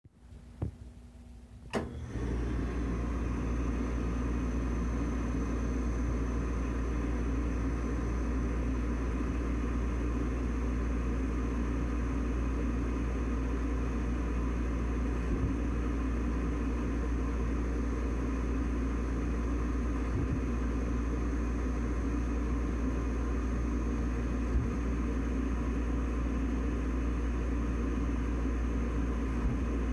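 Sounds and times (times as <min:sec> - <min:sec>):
oil burner rumble: 0:01.6 - 0:29.9.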